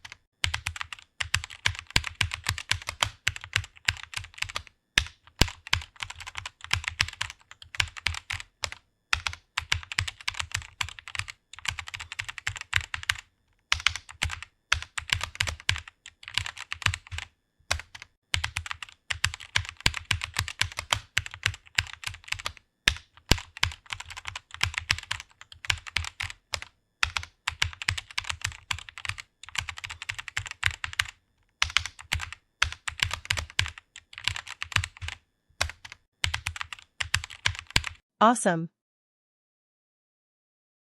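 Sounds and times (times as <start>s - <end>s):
computer keyboard typing: 0.0s - 38.0s.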